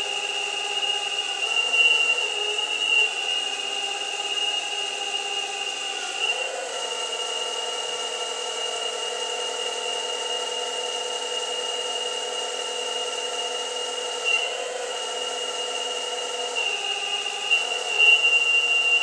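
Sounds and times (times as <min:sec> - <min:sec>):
hydraulic pump whining: 0:00.0 - 0:19.0.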